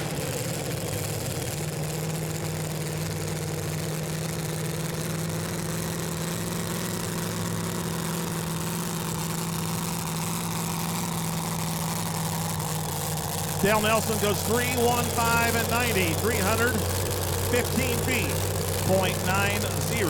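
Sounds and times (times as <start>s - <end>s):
large engine idling: 0.0s - 20.0s.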